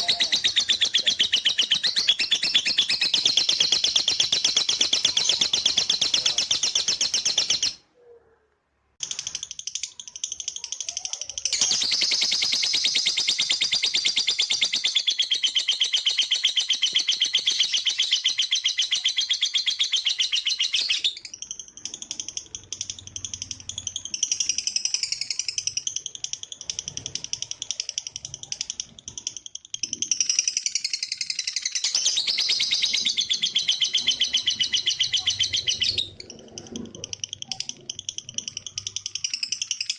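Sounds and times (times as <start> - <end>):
lovebird chattering: 0.0 - 7.8, 9.0 - 39.9.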